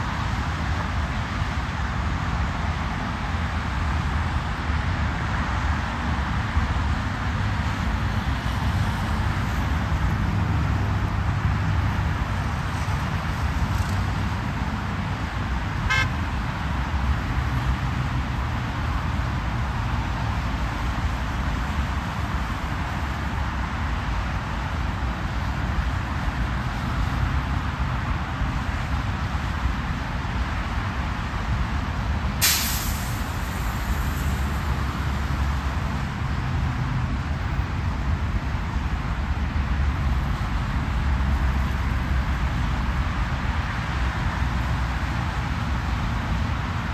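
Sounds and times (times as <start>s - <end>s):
highway traffic rumble: 0.0s - 46.9s.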